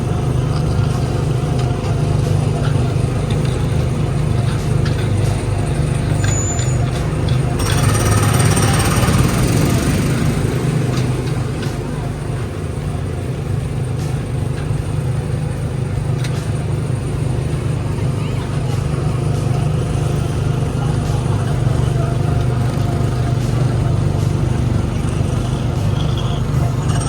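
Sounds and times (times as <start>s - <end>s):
small gasoline engine running: 0.0s - 27.0s.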